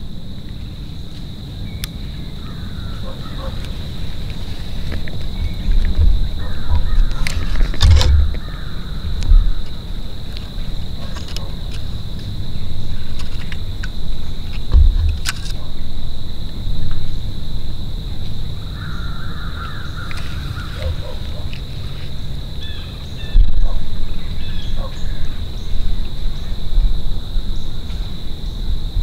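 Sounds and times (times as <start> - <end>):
low rumble on microphone: 0.0 - 29.0
steady high-pitched whine: 0.0 - 29.0
bird calls: 0.6 - 17.2, 18.1 - 28.7.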